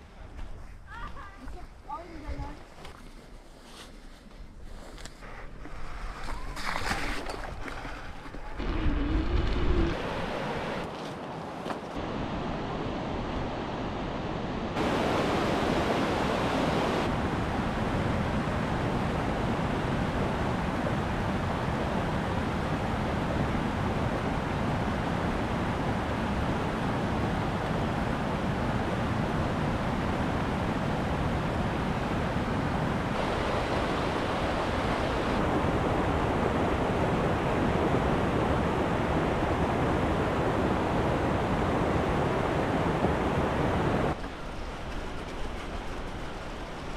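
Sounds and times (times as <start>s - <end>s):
steady rushing noise: 8.4s - 46.9s.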